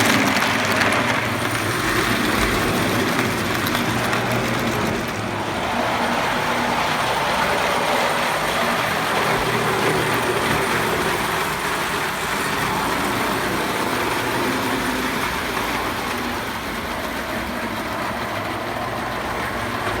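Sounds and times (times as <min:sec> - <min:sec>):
toy train motors whirring and rattling: 0:00.0 - 0:20.0.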